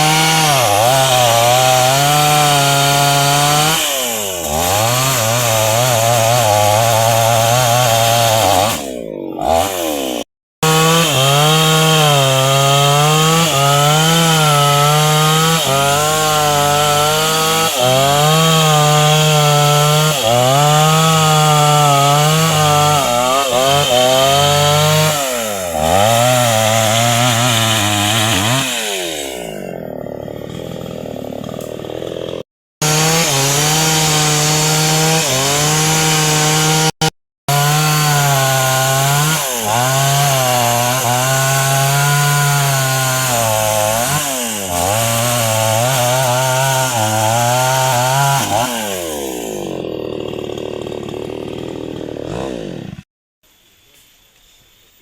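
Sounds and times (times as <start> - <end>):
chainsaw cutting into trunk: 0.0 - 53.1.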